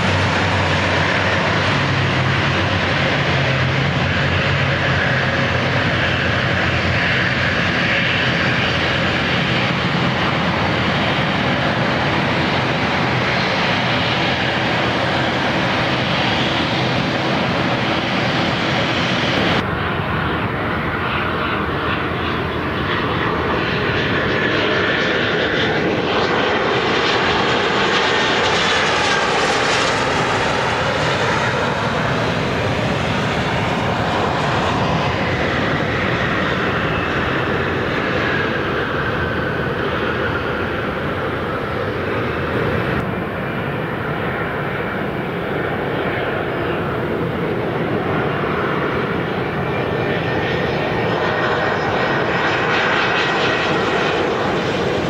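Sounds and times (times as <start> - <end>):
jet engine noise: 0.0 - 55.0
turboprop plane taking off: 0.0 - 55.0.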